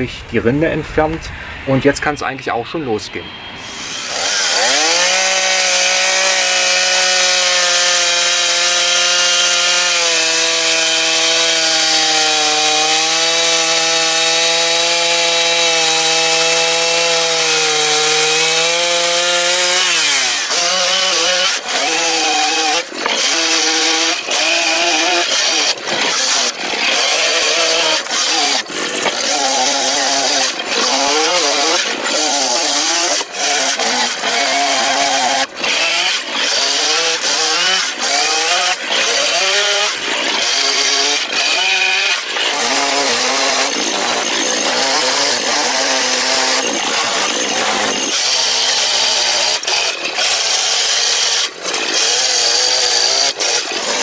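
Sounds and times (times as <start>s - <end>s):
chainsaw cutting wood: 3.6s - 54.0s.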